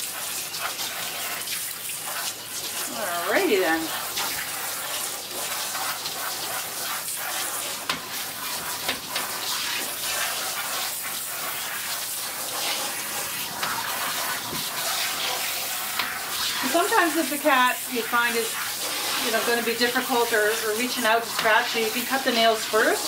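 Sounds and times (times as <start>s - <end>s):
shower sprayer spraying water: 0.0s - 23.0s
water splashing: 0.0s - 23.0s.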